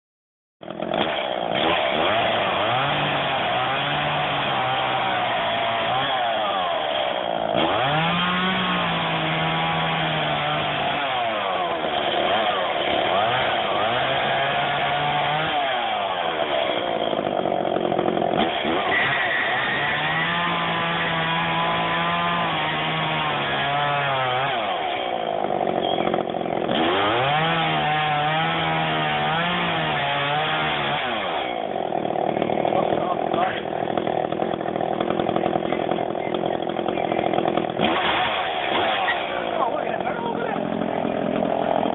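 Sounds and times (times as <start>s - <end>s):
chainsaw cutting wood: 0.6s - 41.9s.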